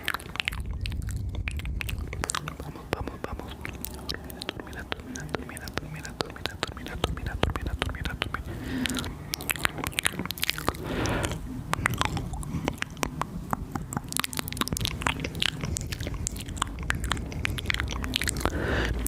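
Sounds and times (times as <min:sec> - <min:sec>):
wet tongue and lip clicks: 0:00.0 - 0:19.0
breathy hisses: 0:01.7 - 0:19.0.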